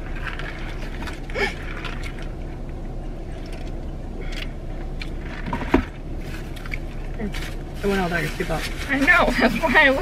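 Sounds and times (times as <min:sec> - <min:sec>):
car interior hum: 0:00.0 - 0:10.0.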